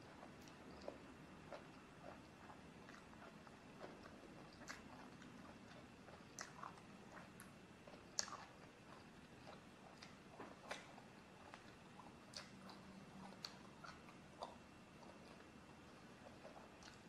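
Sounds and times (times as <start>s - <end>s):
soft chewing: 0.0s - 17.0s.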